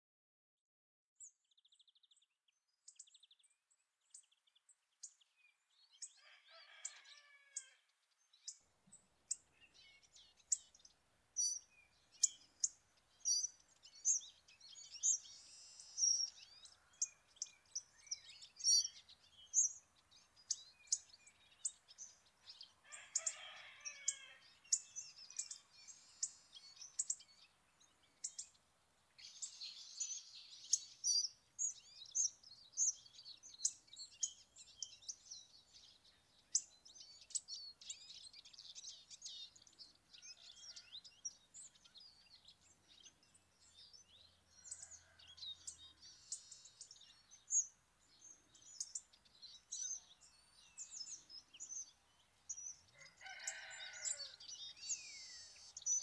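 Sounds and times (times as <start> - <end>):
small birds ticking calls: 1.2 - 56.0.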